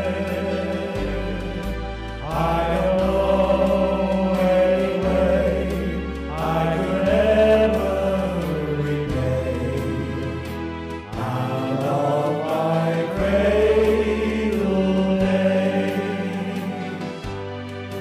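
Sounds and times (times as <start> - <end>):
bass line: 0.0 - 18.0.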